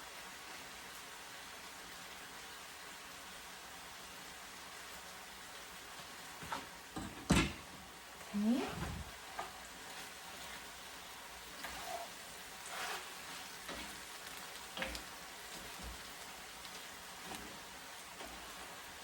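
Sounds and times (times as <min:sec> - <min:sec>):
food frying in a pan: 0:00.0 - 0:19.0.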